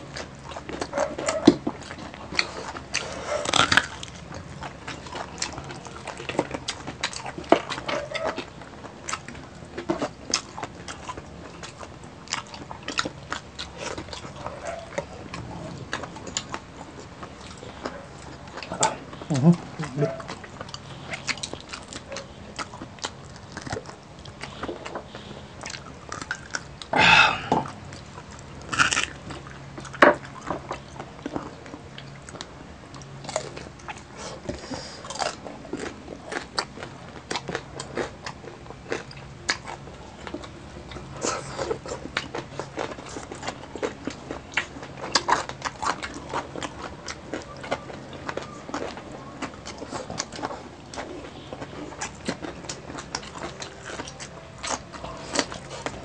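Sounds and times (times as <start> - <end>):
crunching and chewing crispy food: 0.0 - 56.0.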